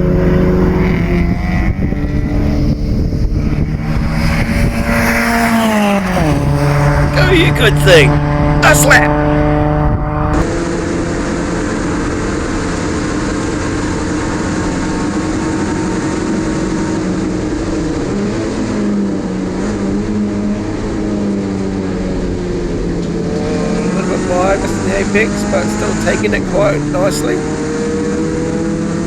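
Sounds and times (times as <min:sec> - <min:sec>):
race car engine running hard: 0:00.0 - 0:29.0
road and tyre noise: 0:00.0 - 0:29.0.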